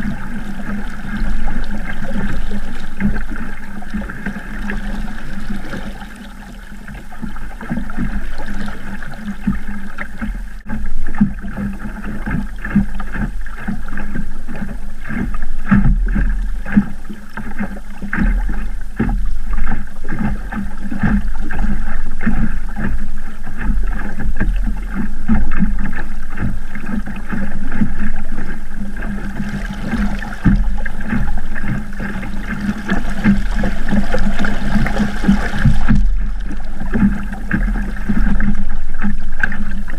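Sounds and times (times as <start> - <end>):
water slapping against hull: 0.0 - 39.9.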